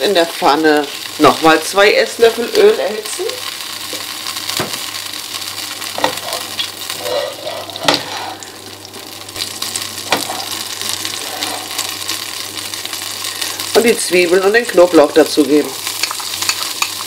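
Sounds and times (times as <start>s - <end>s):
oil sizzling in frying pan: 0.0s - 17.0s.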